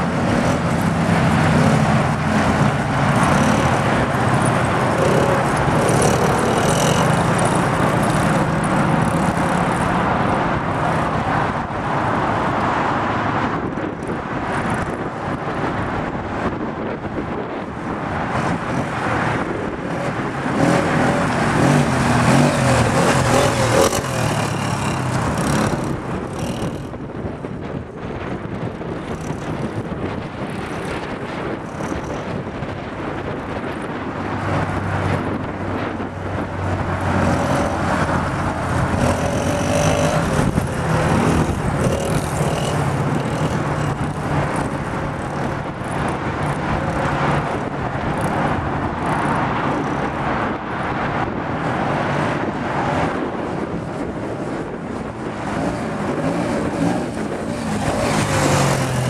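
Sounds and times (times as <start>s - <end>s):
small engines revving: 0.0s - 11.6s, 18.3s - 27.5s, 28.8s - 50.6s, 54.0s - 59.0s.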